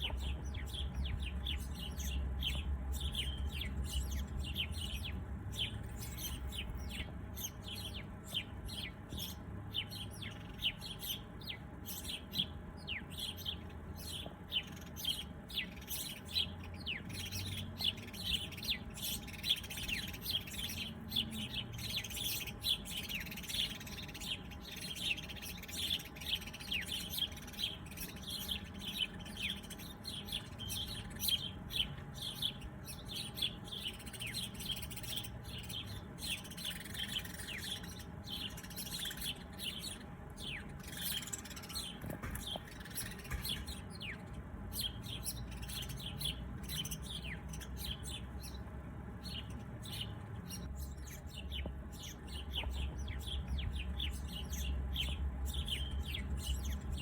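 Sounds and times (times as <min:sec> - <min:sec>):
low background rumble: 0:00.0 - 0:57.0
small birds chirping: 0:00.0 - 0:57.0.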